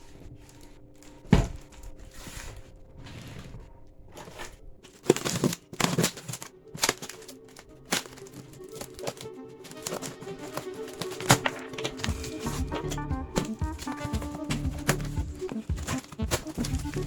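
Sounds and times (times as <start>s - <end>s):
quiet background music: 0.0s - 17.0s
rustling handling noises: 0.0s - 17.0s.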